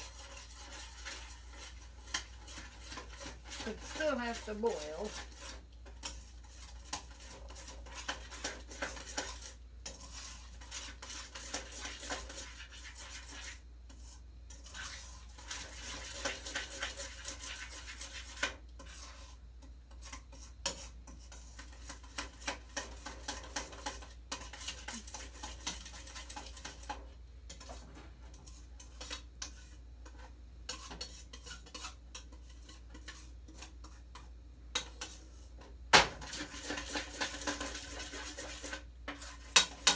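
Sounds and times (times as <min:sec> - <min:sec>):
spoon clinking and scraping pan: 0:00.0 - 0:27.8, 0:28.4 - 0:35.3, 0:36.2 - 0:39.9.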